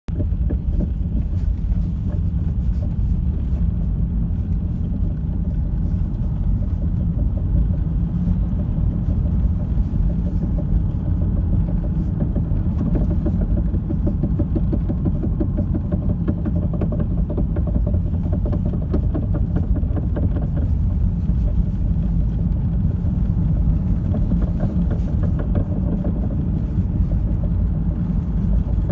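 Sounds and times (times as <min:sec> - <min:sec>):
car engine low rumble: 0:00.0 - 0:28.9
faint rapid engine knocking: 0:00.1 - 0:28.9.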